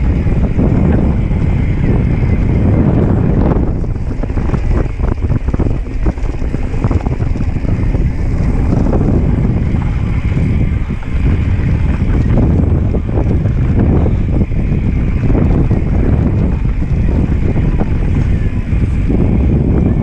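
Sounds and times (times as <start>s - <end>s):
bike rattling over bumps: 0.0s - 20.0s
bike tyres rolling on dirt: 0.0s - 20.0s
wind buffeting microphone: 0.0s - 20.0s.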